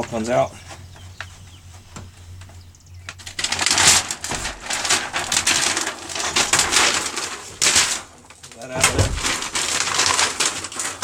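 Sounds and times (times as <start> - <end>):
plastic film crinkling and rustling: 0.0 - 11.0.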